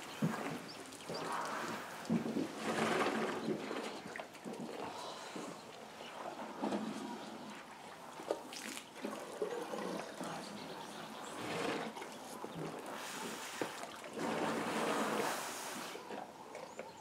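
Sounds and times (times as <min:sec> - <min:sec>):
water splashing and gurgling: 0:00.0 - 0:17.0.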